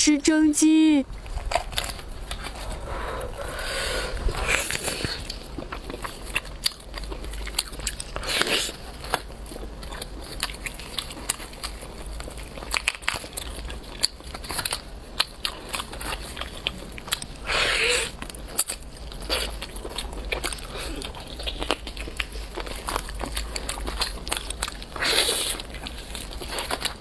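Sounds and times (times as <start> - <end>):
wet chewing with clicks and smacks: 1.1 - 27.0
tearing chicken skin and meat: 1.2 - 27.0.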